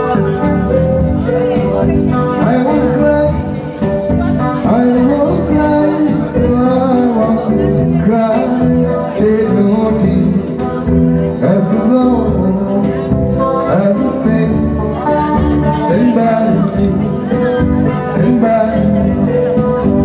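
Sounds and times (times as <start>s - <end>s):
electric guitar playing: 0.0s - 20.0s
man singing: 0.0s - 20.0s.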